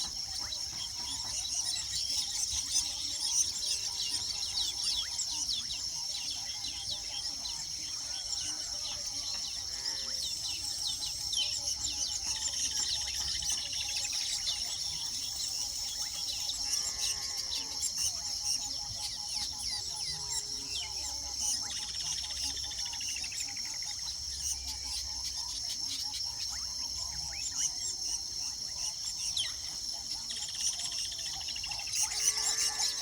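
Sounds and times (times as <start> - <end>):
high-pitched insect drone: 0.0 - 33.0
weaver birds chattering: 0.0 - 33.0.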